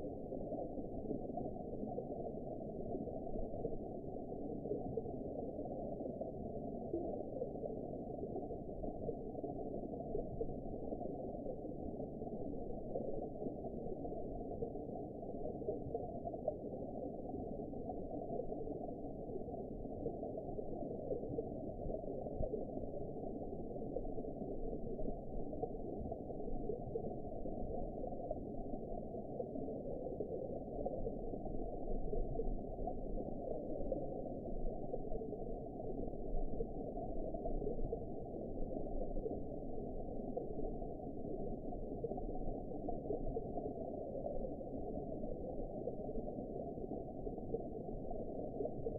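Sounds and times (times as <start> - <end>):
muffled underwater ambience: 0.0 - 48.9.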